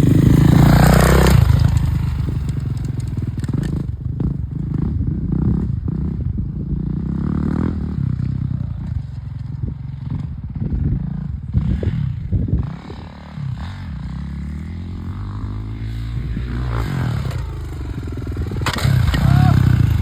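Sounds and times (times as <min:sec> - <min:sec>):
dirt bike engine revving: 0:00.0 - 0:08.2, 0:10.0 - 0:20.0.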